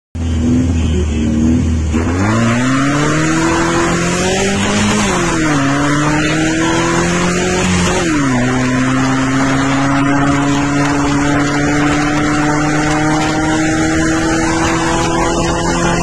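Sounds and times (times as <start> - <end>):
sports car engine revving: 0.2 - 16.0.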